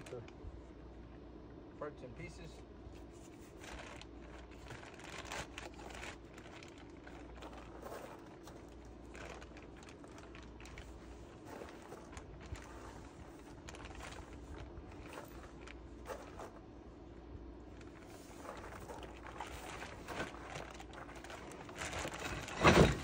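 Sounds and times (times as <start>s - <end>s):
cardboard rustling and crinkling: 3.0s - 16.7s, 17.7s - 23.0s.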